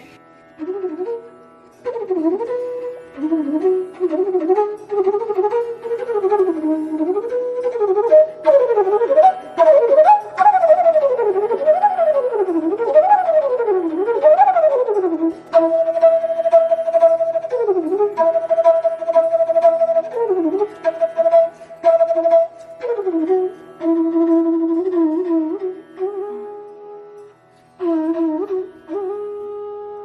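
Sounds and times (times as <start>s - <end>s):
flute melody: 0.0s - 30.0s.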